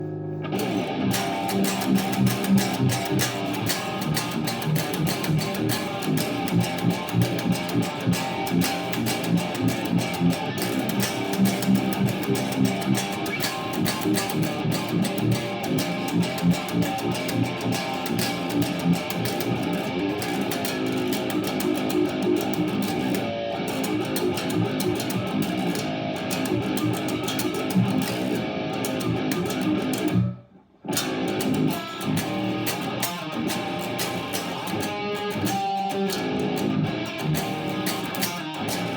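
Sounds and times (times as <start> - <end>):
electric guitar fast metal riffs: 0.0 - 38.9.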